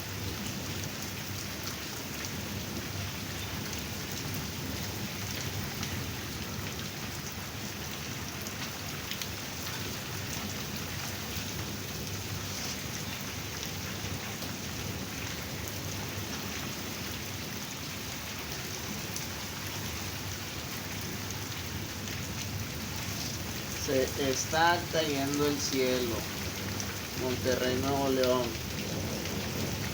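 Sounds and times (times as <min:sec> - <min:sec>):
heavy rain pouring: 0:00.0 - 0:29.9
raindrops ticking on hard surfaces: 0:00.0 - 0:29.9.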